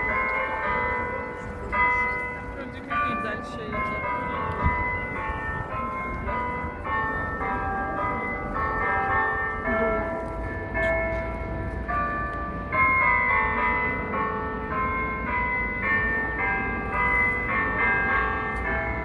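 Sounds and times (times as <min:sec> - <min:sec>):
bells ringing a melody: 0:00.0 - 0:19.0.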